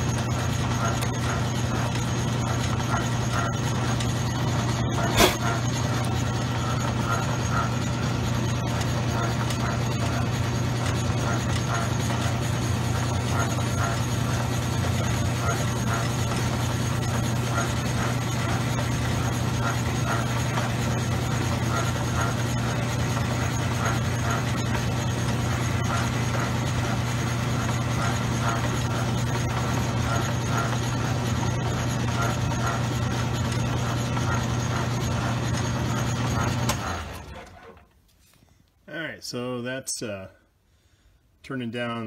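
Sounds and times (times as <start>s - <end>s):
metal lathe motor humming: 0.0s - 37.7s
cutting tool turning metal: 0.0s - 37.8s.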